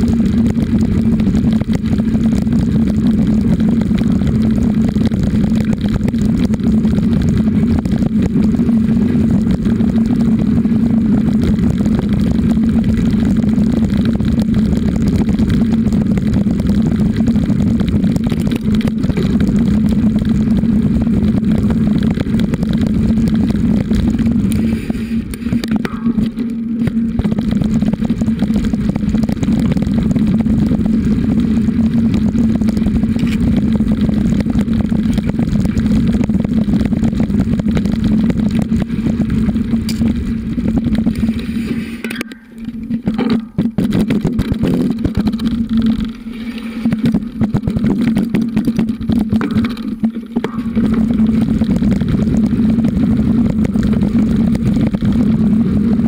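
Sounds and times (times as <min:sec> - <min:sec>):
bicycle rattling over dirt track: 0:00.0 - 0:56.0
constant low drone: 0:00.0 - 0:56.0.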